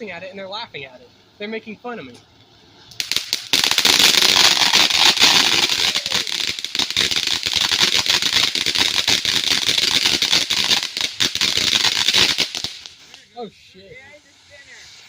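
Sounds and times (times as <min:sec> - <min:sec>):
steady hiss: 0:00.0 - 0:15.0
firework crackling: 0:02.8 - 0:15.0.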